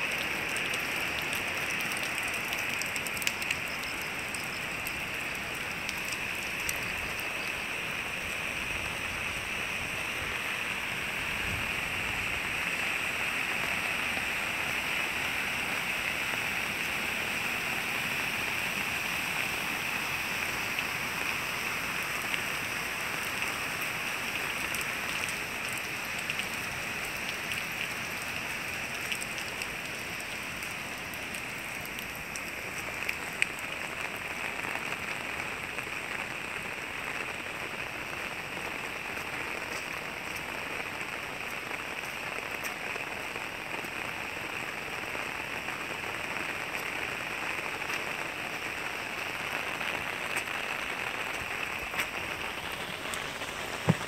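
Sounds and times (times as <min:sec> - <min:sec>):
rain on wet pavement: 0:00.0 - 0:54.0.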